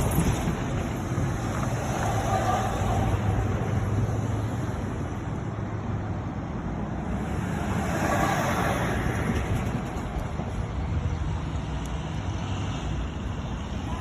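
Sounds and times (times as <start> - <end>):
road traffic hum: 0.0 - 14.0
vehicles passing: 0.0 - 14.0.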